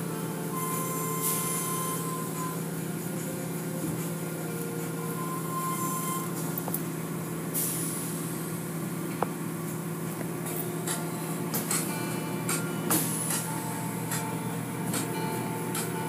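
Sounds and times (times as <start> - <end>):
car wash motors humming: 0.0 - 16.0.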